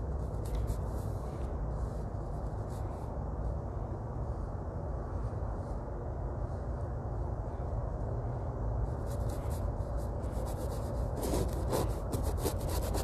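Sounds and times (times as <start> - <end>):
paintbrush strokes on canvas: 0.0 - 8.2, 8.8 - 13.0
low background rumble: 0.0 - 13.0.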